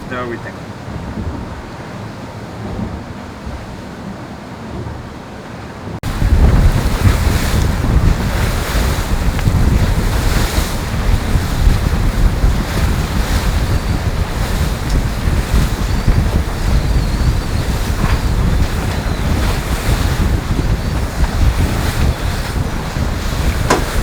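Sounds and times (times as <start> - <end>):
water rushing along a hull: 0.0 - 24.0
wind buffeting the microphone: 0.0 - 24.0.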